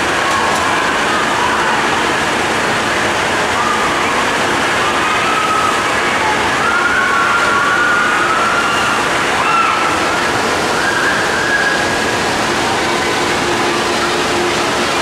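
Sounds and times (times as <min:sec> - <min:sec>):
water rushing from slide tunnel: 0:00.0 - 0:15.0.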